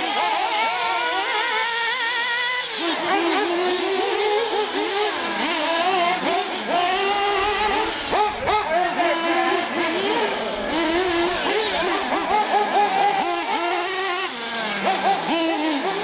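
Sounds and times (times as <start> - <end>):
small engines screaming: 0.0 - 16.0.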